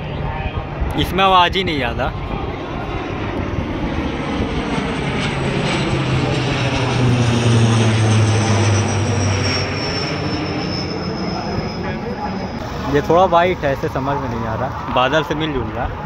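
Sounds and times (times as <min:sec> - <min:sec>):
fighter jet flying past: 0:00.0 - 0:16.0
high whine falling in pitch: 0:02.1 - 0:16.0.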